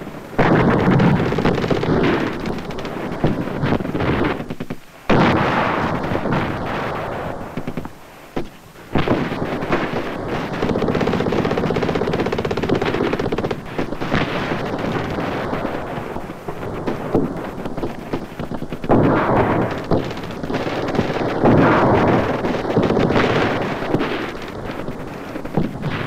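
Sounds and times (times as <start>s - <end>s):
gunfire and blasts: 0.0s - 26.0s
rapid automatic fire: 0.0s - 26.0s.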